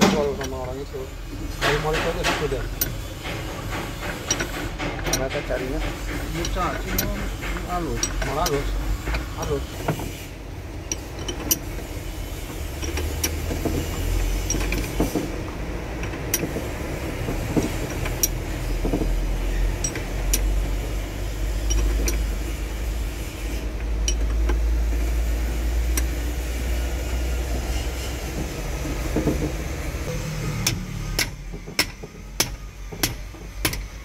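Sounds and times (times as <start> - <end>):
spanner clicking on nuts: 0.0 - 34.0.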